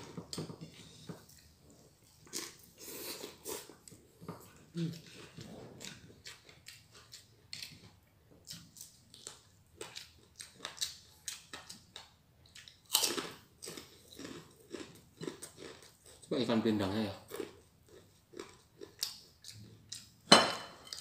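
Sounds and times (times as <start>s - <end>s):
crunchy chewing: 0.0s - 16.3s, 17.2s - 20.2s.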